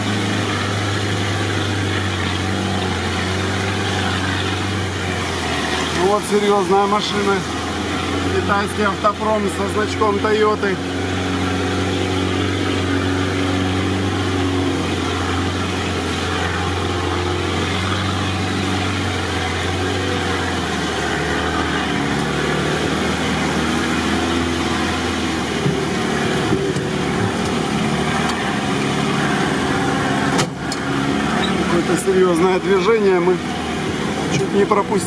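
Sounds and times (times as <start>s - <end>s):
off-road vehicle engine running: 0.0s - 35.0s.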